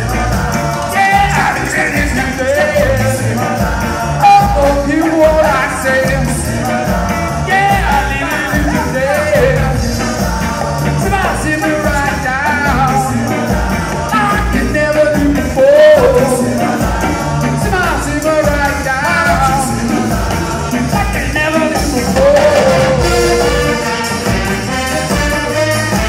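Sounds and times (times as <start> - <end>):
electric guitar: 0.0 - 26.0
horn section: 0.0 - 26.0
steady beat: 0.0 - 26.0
voices singing: 0.0 - 26.0.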